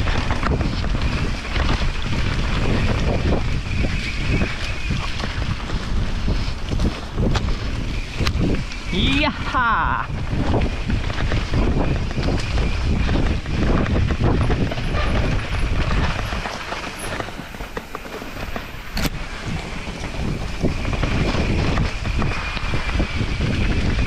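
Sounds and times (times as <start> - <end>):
bike rattling and clicking: 0.0 - 24.0
bike tyres rumbling on dirt: 0.0 - 24.0
wind buffeting microphone: 0.0 - 24.0.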